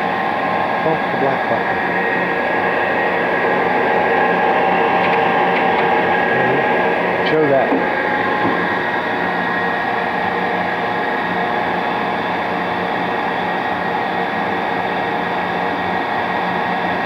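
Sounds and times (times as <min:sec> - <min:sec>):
lathe motor humming and whining: 0:00.0 - 0:17.0.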